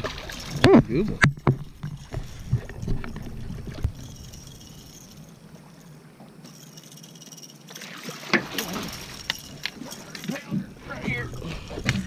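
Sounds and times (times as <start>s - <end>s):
water splashing: 0.0s - 12.0s
insects chirring: 1.3s - 11.9s.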